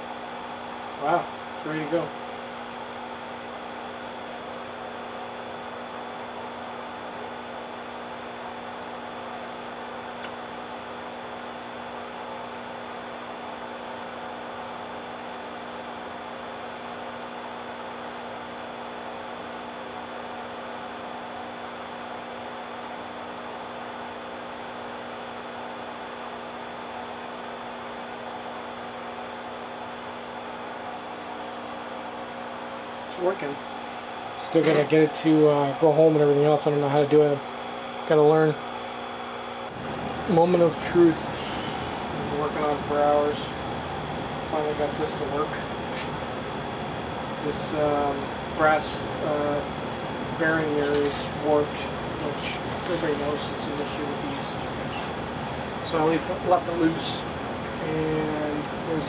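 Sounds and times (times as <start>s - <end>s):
electrical hum with tones: 0.0s - 59.0s.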